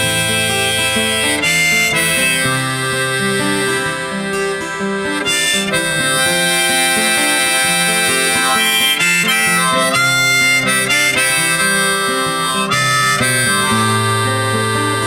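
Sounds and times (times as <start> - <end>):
acoustic guitar: 0.0 - 15.0
harmonica melody: 0.0 - 15.0.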